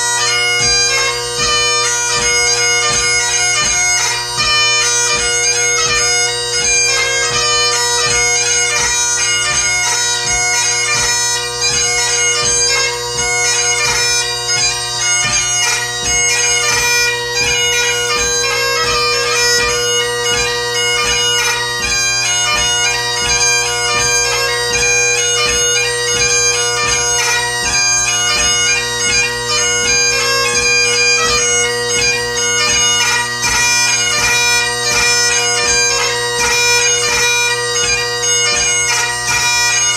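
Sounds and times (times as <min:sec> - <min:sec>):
bagpipe playing march: 0:00.0 - 0:39.9.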